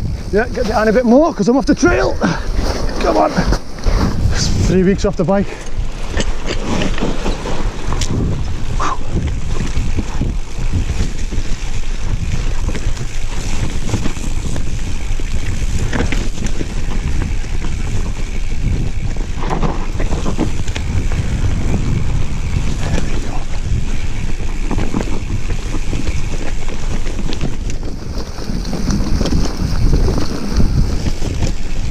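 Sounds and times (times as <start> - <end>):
bike knocks and rattles: 0.0 - 31.9
tyres rumbling on rocky trail: 0.0 - 31.9
wind buffeting microphone: 0.0 - 31.9.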